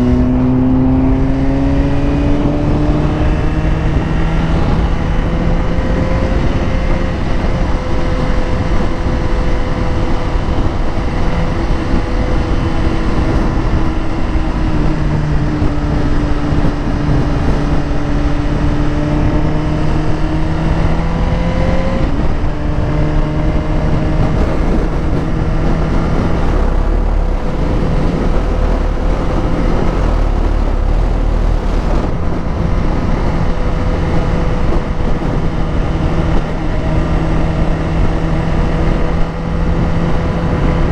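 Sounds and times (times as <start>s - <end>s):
motorcycle engine running: 0.0s - 40.8s
wind rush: 0.0s - 40.9s.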